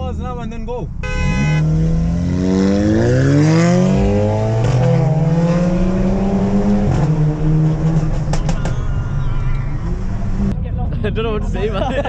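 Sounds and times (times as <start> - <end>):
car engines accelerating: 1.0 - 12.0.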